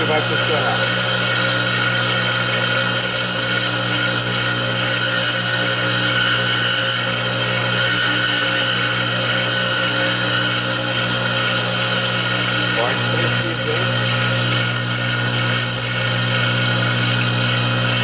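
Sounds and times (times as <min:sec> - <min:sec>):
chisel cutting spinning wood: 0:00.0 - 0:18.0
wood lathe motor humming: 0:00.0 - 0:18.0.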